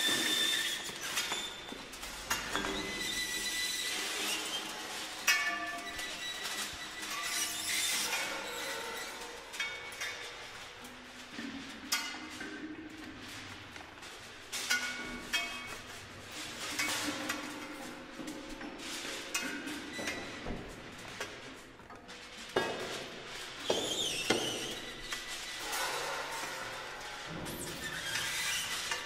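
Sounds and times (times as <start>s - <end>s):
metallic clinks knocks and scrapes: 0.0s - 29.0s.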